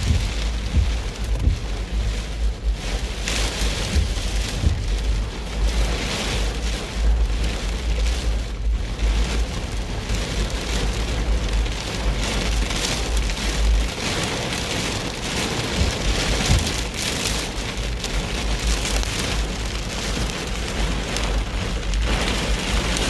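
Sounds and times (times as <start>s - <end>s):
heavy rain drumming on a car: 0.0s - 23.0s
steady low rumble: 0.0s - 23.0s.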